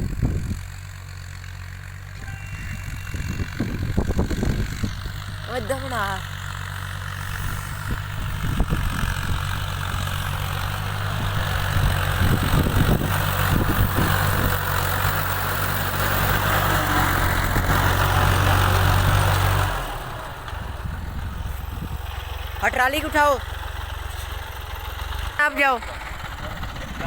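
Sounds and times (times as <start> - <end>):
tractor diesel engine droning: 0.0 - 27.0.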